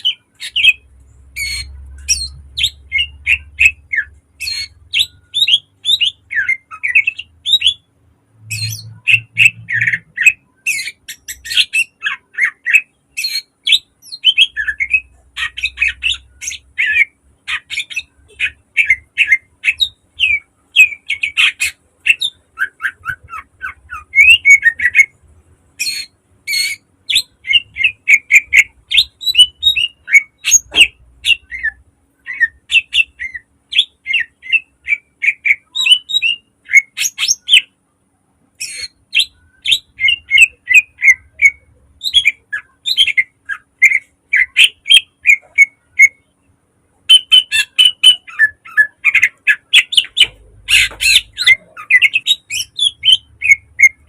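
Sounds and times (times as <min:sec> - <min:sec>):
bird singing chirps and whistles: 0:00.0 - 0:25.1, 0:25.8 - 0:37.8, 0:38.6 - 0:46.3, 0:47.1 - 0:54.0.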